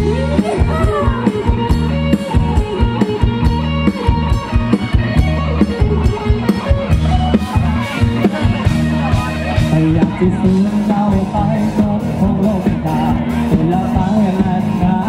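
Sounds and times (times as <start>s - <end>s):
live rock band instrumental: 0.0s - 15.0s.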